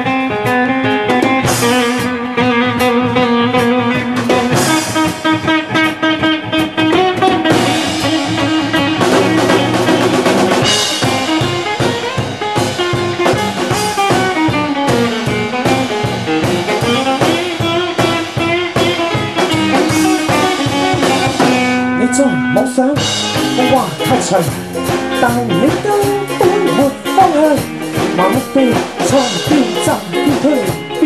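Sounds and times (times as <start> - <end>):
drum kit steady beat: 0.0 - 31.0
guitar melody: 0.0 - 31.0.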